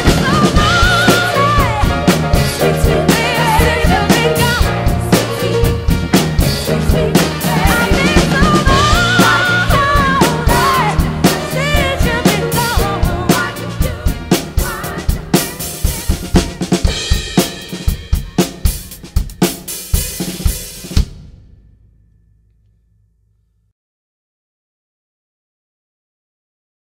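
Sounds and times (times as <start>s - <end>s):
backing track melody: 0.0s - 22.0s
drum kit groove: 0.0s - 22.0s.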